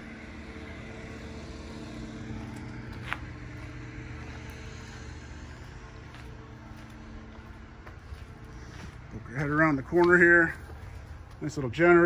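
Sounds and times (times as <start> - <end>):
faint steady tones: 0.0 - 12.0
low machine hum: 0.0 - 12.0.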